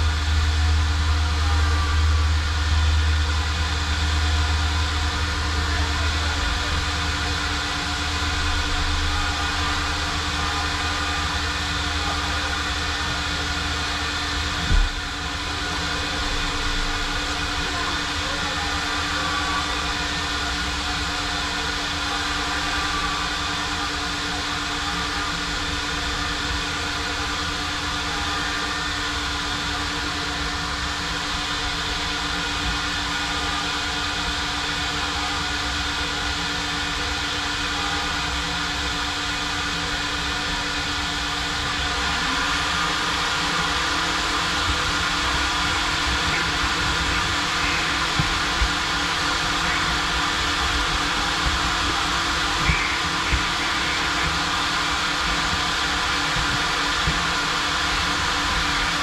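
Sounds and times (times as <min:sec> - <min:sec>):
vacuum droning: 0:00.0 - 0:59.0.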